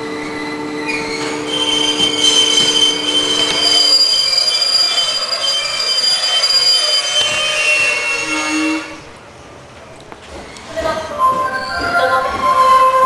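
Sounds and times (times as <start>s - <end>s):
train brakes squealing: 0.1s - 9.1s, 10.4s - 13.0s.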